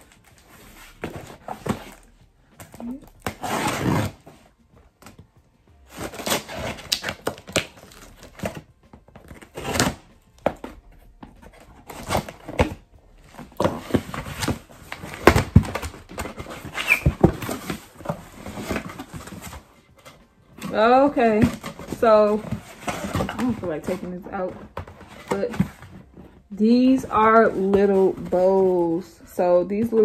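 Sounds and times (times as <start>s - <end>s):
cardboard and paper rustling: 0.0s - 30.0s.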